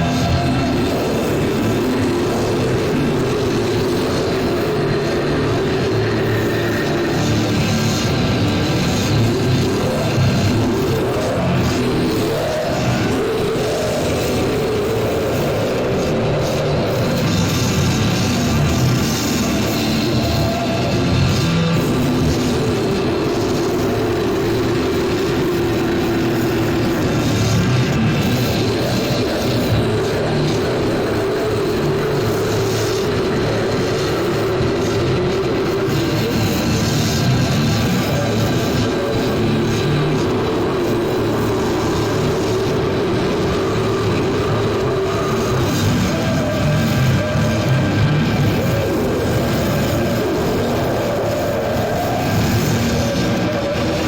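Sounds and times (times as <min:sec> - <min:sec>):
distorted noise metal music: 0:00.0 - 0:54.0
low drone: 0:00.0 - 0:54.0.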